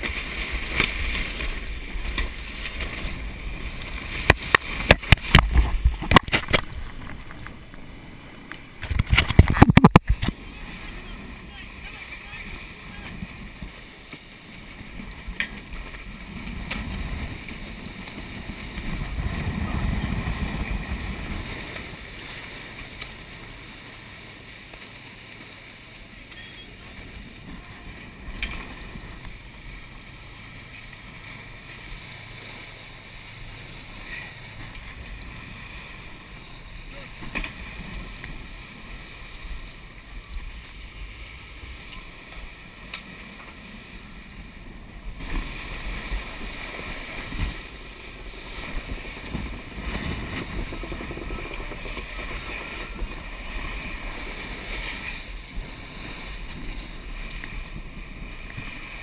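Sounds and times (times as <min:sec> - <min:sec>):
wind rumbling on microphone: 0:00.0 - 0:25.0, 0:25.8 - 0:59.0
water rushing along a hull: 0:00.0 - 0:59.0.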